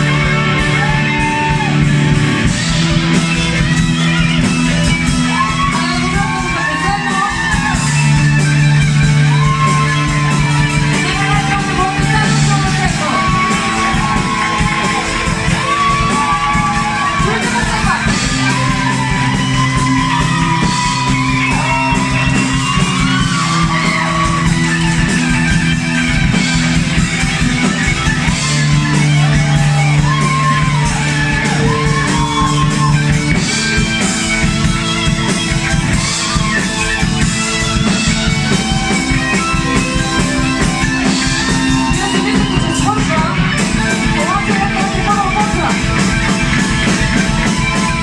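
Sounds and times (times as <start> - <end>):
drums with cymbals: 0.0 - 48.0
lead guitar with bending notes: 0.0 - 48.0.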